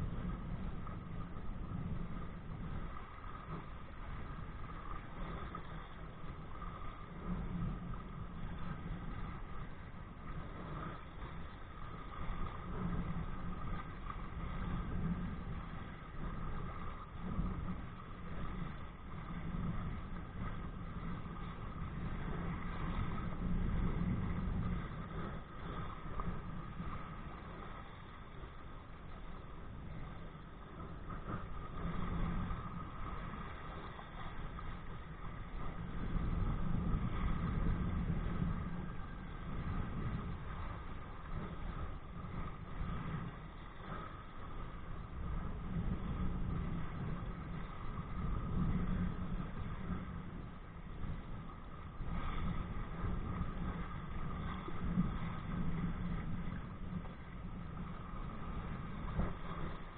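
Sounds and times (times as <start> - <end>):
water rushing past kayak: 0.0 - 59.9
wind buffeting camera: 0.0 - 59.9.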